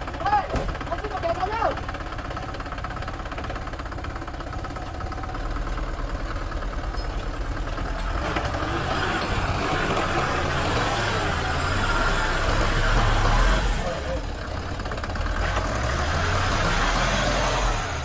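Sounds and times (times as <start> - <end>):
dump truck diesel engine revving: 1.8 - 18.0.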